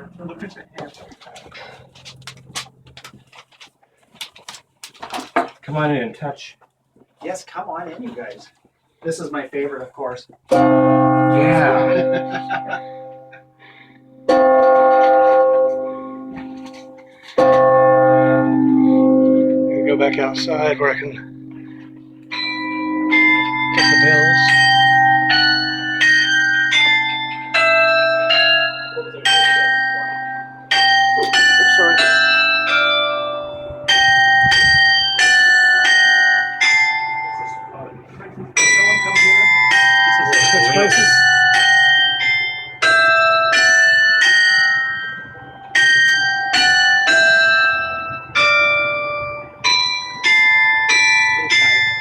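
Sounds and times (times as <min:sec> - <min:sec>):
carillon bells ringing: 0:00.0 - 0:03.2, 0:10.5 - 0:52.0.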